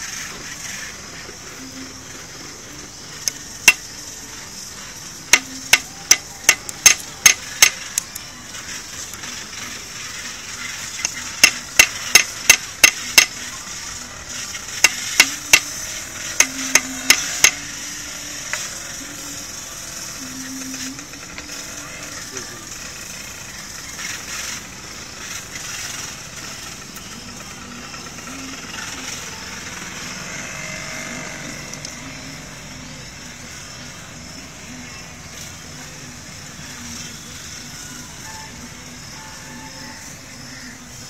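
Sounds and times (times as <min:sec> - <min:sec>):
steady high hiss: 0:00.0 - 0:41.0.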